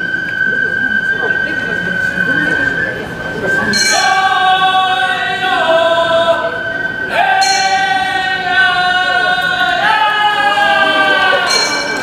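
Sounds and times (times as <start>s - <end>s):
bamboo flutes holding notes: 0.0s - 12.0s.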